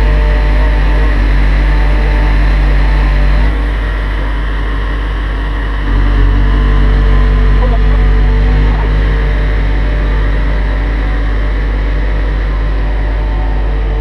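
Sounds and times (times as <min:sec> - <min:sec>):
crane diesel engine droning: 0:00.0 - 0:14.0.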